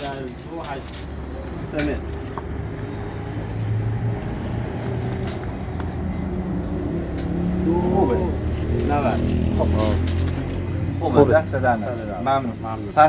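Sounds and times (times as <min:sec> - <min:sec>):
low engine hum: 0:01.1 - 0:13.0.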